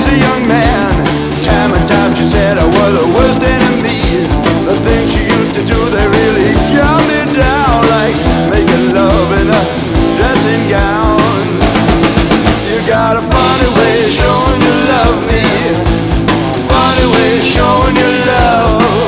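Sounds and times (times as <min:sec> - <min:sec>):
bending lead guitar lines: 0:00.0 - 0:19.0
drums keeping a steady beat: 0:00.0 - 0:19.0.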